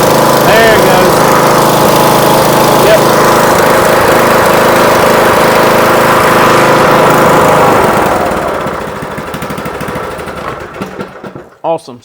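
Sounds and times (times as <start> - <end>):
riding mower engine running: 0.0 - 11.6.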